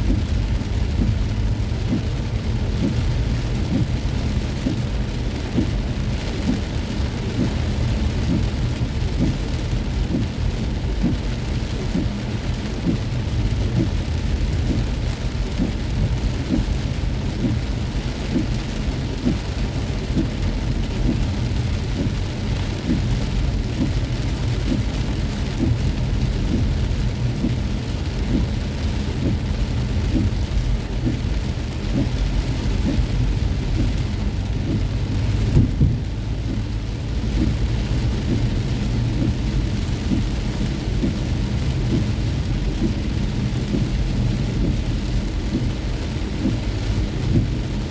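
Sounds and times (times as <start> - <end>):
heavy rain on a car: 0.0 - 47.9
low vehicle rumble: 0.0 - 47.9.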